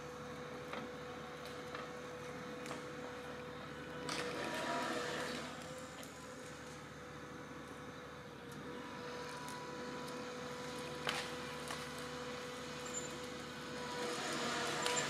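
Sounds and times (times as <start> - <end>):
logging machinery humming and whining: 0.0 - 15.0.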